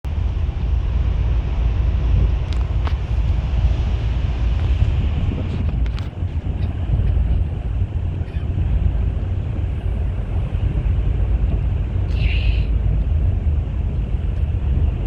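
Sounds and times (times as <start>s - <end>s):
bus engine rumble: 0.0s - 15.0s
road noise: 0.0s - 15.0s
wind buffeting microphone: 0.0s - 15.0s.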